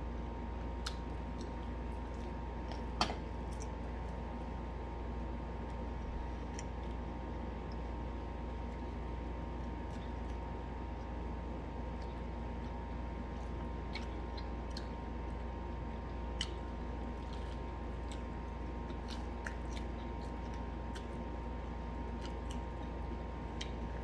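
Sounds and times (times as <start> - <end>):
chewing crispy fried food: 0.0 - 24.0
steady low hum: 0.0 - 24.0.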